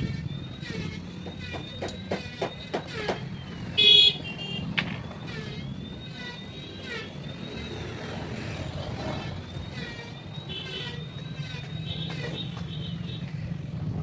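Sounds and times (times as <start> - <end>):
car horn toot: 0.0 - 7.8, 9.6 - 13.3
road traffic: 0.0 - 14.0.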